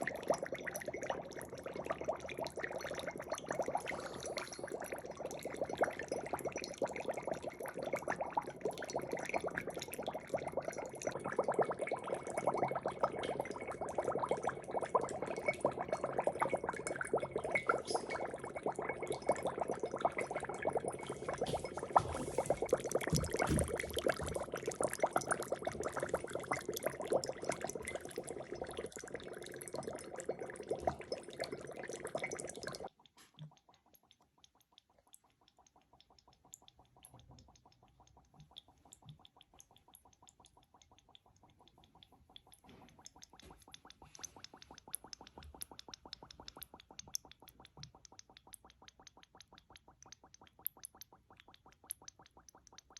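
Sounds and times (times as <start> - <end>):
dry ice bubbling in water: 0.0 - 52.9.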